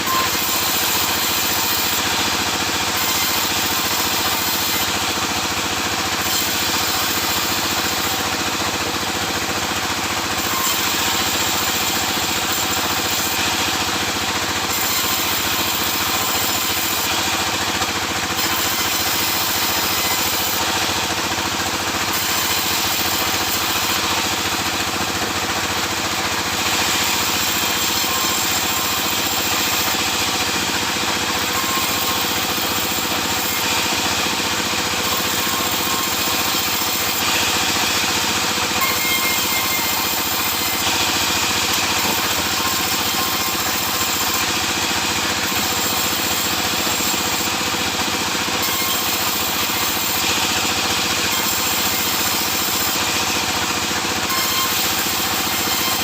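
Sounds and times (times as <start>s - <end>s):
saw hissing: 0.0s - 56.0s
sawmill machine drone: 0.0s - 56.0s.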